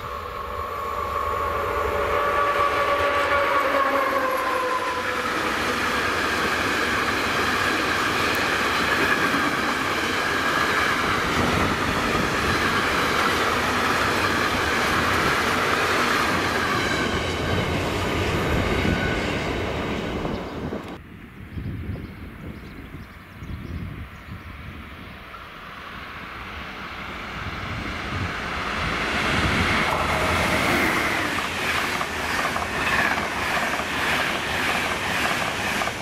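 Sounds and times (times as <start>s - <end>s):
train wheels on rail: 0.0s - 21.0s, 25.2s - 36.0s.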